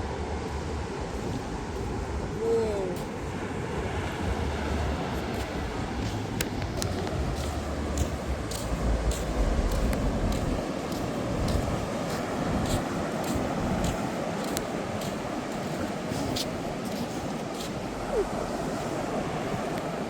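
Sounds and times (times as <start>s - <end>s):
steady outdoor rush: 0.0s - 20.0s
wind rumbling on microphone: 0.0s - 20.0s.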